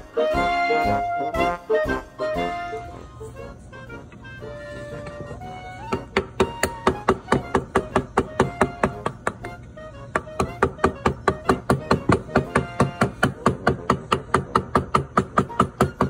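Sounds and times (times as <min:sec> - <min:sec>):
music with knocking beat: 0:00.0 - 0:02.9, 0:04.0 - 0:16.0.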